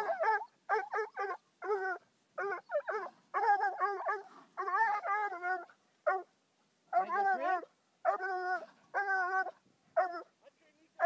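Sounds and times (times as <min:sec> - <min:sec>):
dog barking and yelping: 0:00.0 - 0:10.3.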